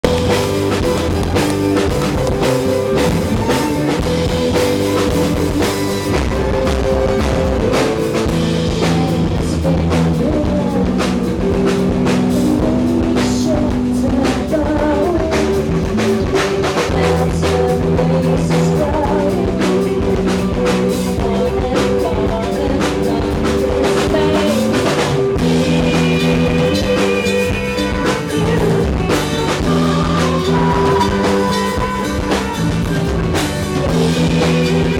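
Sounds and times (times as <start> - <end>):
drum kit steady beat: 0.0 - 34.9
rock band playing live: 0.0 - 34.9.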